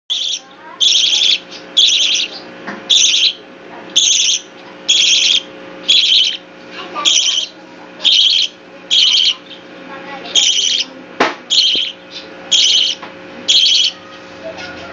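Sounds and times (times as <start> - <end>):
bird chick calling: 0.1 - 10.9, 11.5 - 14.9.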